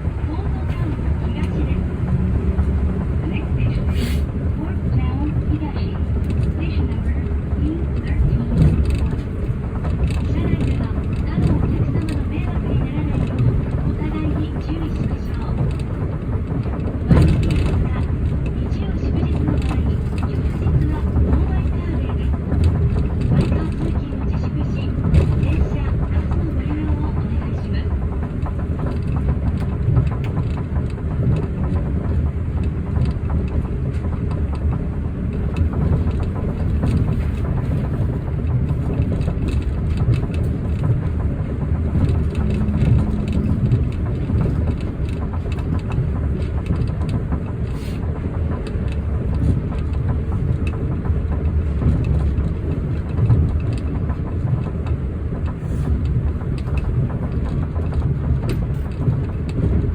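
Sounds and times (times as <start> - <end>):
tram running on rubber tyres: 0.0 - 59.9.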